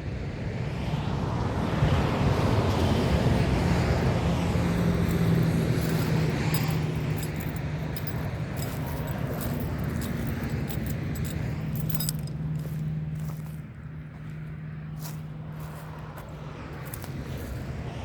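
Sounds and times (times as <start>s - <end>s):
vehicle passing: 0.6s - 18.0s.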